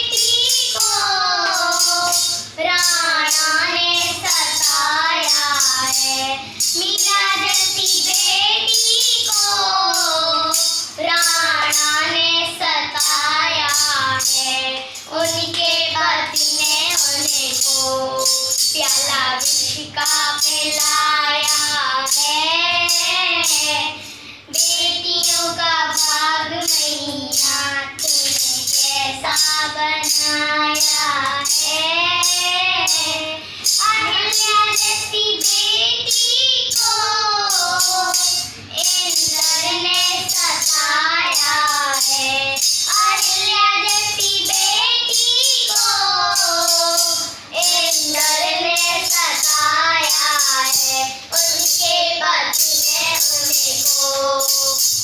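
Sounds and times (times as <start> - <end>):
children singing: 0.0 - 55.0
jingling percussion beat: 0.0 - 55.0.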